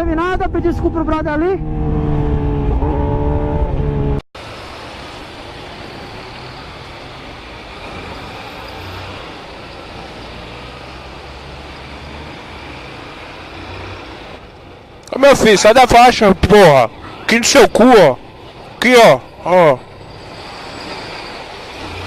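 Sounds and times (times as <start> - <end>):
motorcycle riding noise: 1.0 - 22.0
loud engine tone: 1.5 - 22.0.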